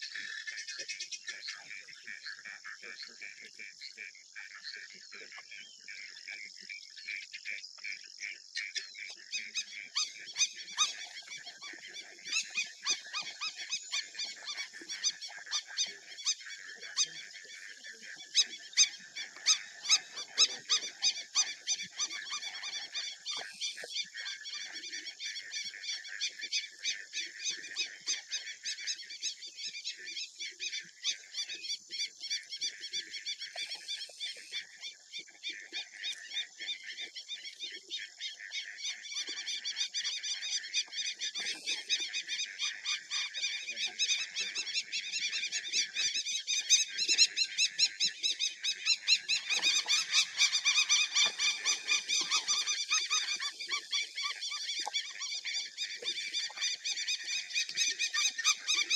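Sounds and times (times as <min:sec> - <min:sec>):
lower animal sounds: 0:00.0 - 0:58.9
high-pitched pulsing animal calls: 0:08.7 - 0:58.9.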